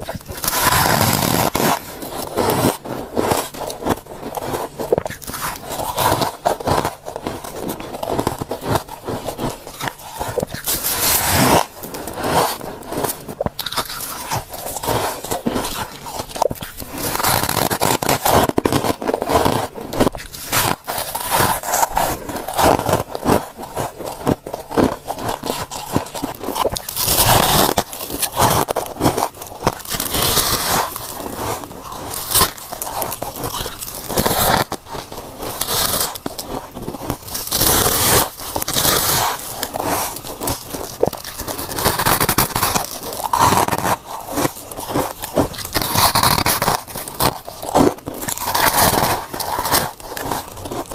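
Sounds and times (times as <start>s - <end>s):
chewing crunchy frost: 0.0s - 50.9s.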